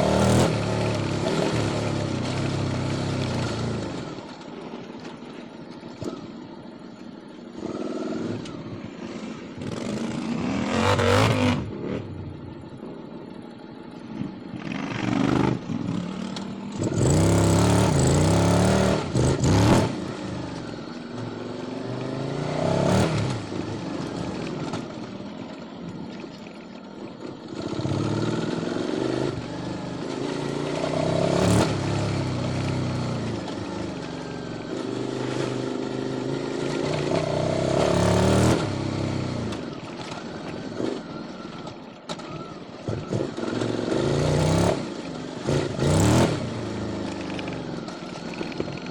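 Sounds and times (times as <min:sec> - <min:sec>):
motorcycle engine revving: 0:00.0 - 0:25.6, 0:27.2 - 0:48.9.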